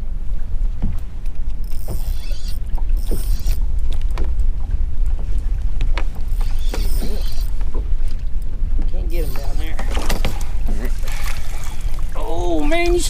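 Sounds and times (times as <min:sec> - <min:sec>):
steady low rumble: 0:00.0 - 0:13.0
waves slapping against boat hull: 0:00.0 - 0:13.0.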